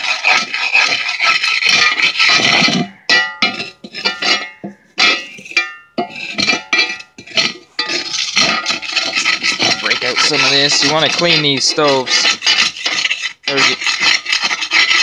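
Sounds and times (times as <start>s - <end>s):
file scraping cast iron pan: 0.0s - 15.0s.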